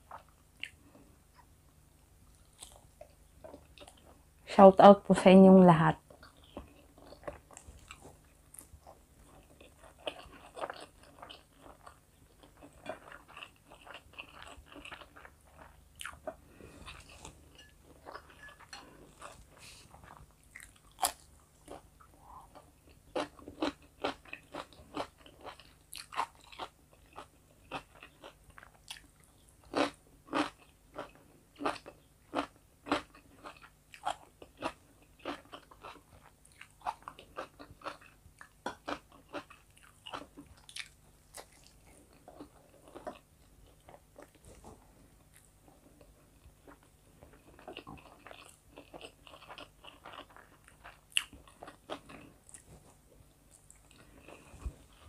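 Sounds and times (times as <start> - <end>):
person chewing food: 0.0 - 1.5, 2.3 - 4.3, 6.0 - 55.0.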